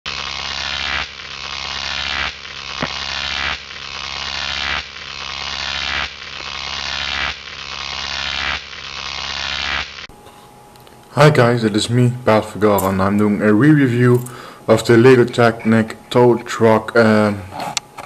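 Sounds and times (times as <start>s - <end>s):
steady low hum: 0.1s - 18.0s.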